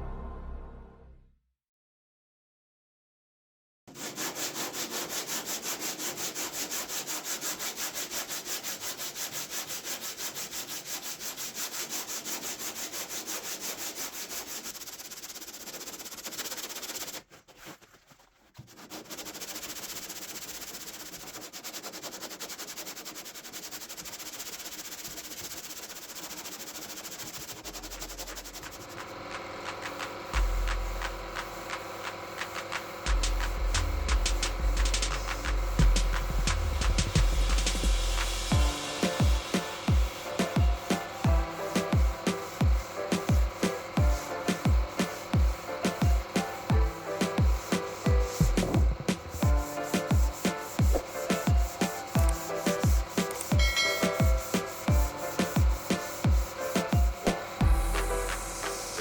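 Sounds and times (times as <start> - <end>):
sandpaper sanding metal panels: 3.9 - 59.0.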